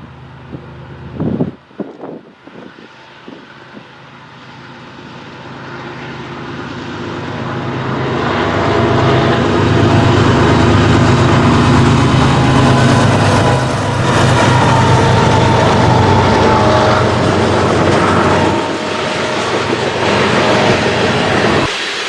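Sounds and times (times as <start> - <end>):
diesel locomotive engines: 0.0 - 22.0.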